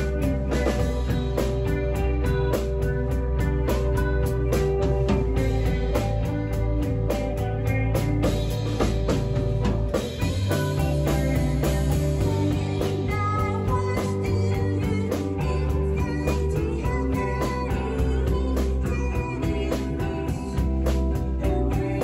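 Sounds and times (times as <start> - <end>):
bass line: 0.0 - 22.0
drum kit: 0.0 - 22.0
electric guitars: 0.0 - 22.0.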